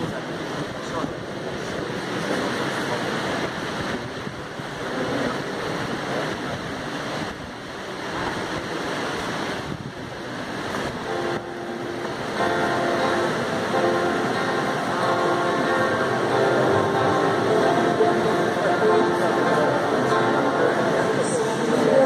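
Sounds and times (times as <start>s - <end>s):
congregation crowd noise: 0.0s - 22.0s.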